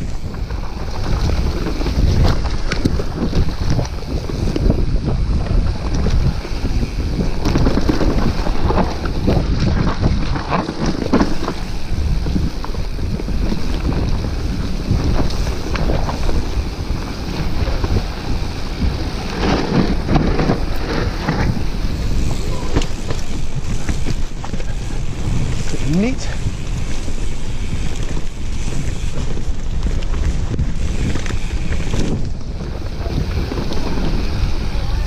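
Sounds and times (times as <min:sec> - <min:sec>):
bike knocks and rattles: 0:00.0 - 0:35.0
bike tyres rumbling on dirt: 0:00.0 - 0:35.0
wind buffeting microphone: 0:00.0 - 0:35.0.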